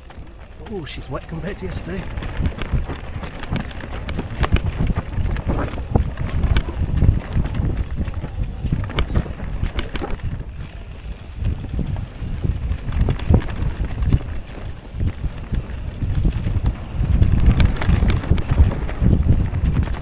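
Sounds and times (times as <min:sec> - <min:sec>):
mountain bike clattering over rough ground: 0:00.0 - 0:20.0.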